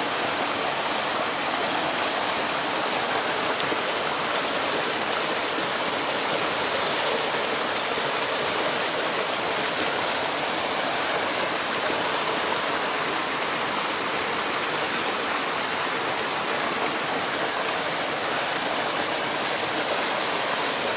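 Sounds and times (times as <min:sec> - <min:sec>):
mountain stream flowing: 0:00.0 - 0:20.9.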